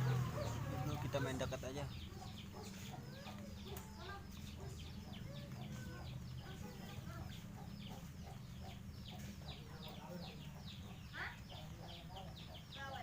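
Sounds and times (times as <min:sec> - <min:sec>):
chickens clucking: 0:00.0 - 0:13.0
chicks peeping: 0:00.0 - 0:13.0.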